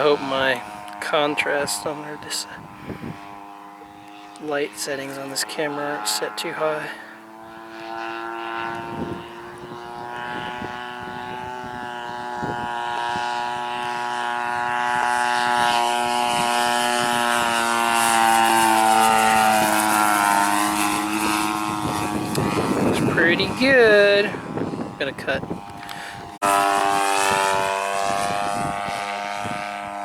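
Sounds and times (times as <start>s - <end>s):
model plane engine buzzing: 0.0s - 30.0s.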